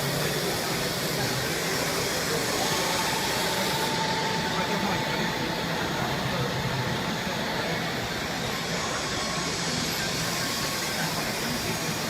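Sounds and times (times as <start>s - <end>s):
lathe machine running: 0.0s - 12.0s.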